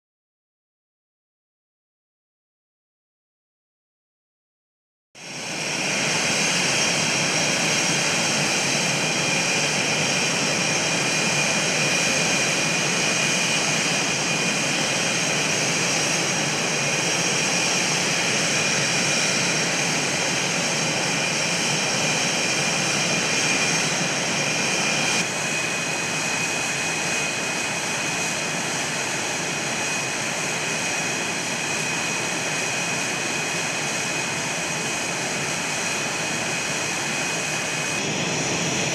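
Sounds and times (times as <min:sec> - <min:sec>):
jet engine whine and rush: 0:05.2 - 0:38.9.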